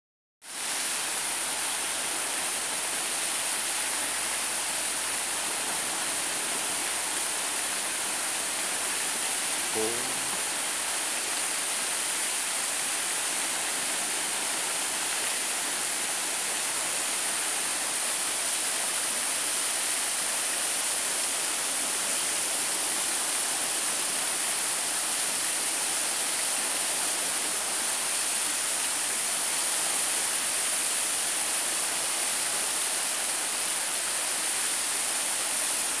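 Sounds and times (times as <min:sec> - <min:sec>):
stream rushing over rapids: 0:00.5 - 0:36.0.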